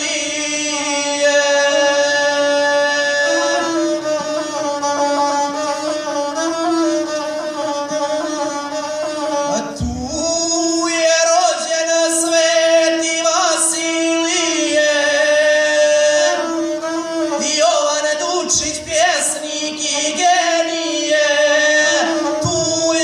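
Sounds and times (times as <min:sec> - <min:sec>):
bowed single-string fiddle: 0:00.0 - 0:23.0
man singing: 0:00.0 - 0:23.0.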